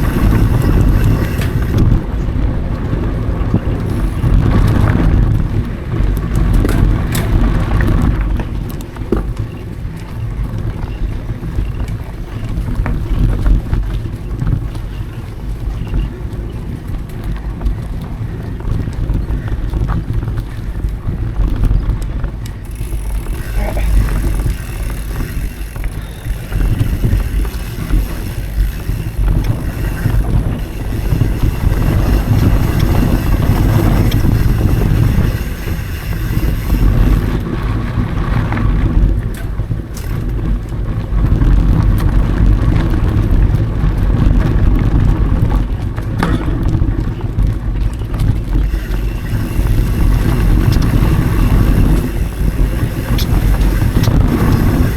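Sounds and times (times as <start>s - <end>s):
bike knocks and rattles: 0.0s - 54.9s
tyres rolling on dirt trail: 0.0s - 54.9s
wind on microphone: 0.0s - 54.9s.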